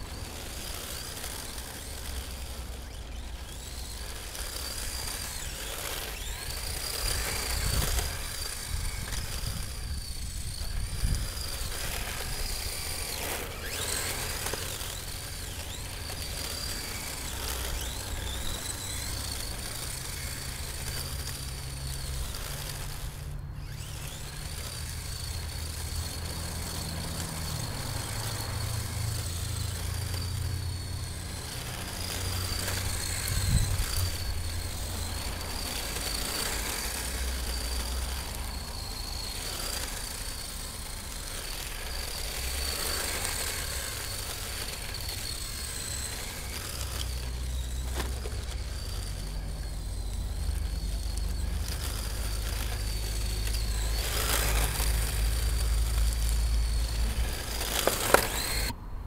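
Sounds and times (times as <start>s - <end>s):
toy car electric motor whining: 0.0s - 59.0s.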